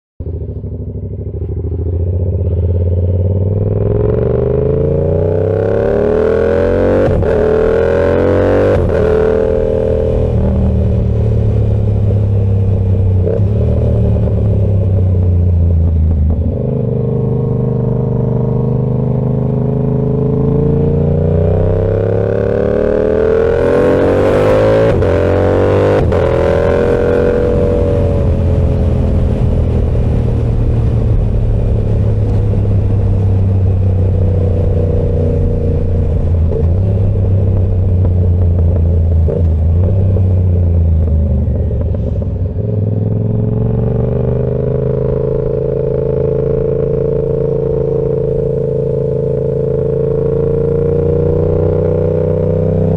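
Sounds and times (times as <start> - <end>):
motorcycle engine accelerating: 0.2 - 52.9.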